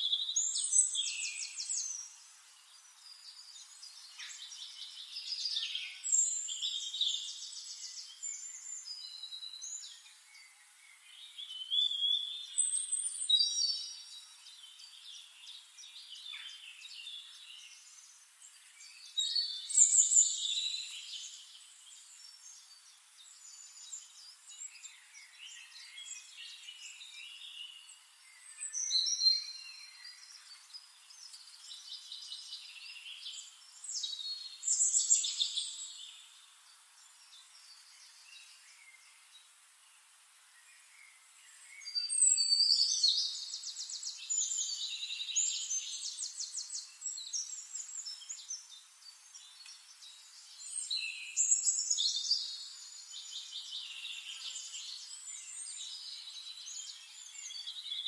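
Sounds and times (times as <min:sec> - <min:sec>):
faint hiss: 0:00.0 - 0:58.0
songbirds singing: 0:00.0 - 0:58.0.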